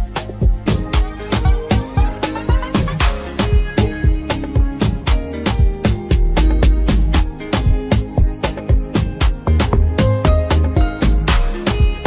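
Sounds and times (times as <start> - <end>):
music with fast drum beat: 0.0 - 12.0.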